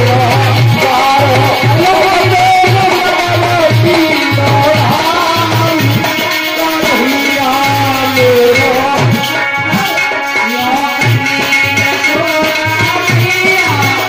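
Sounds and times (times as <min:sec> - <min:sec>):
folk music over loudspeakers: 0:00.0 - 0:14.0.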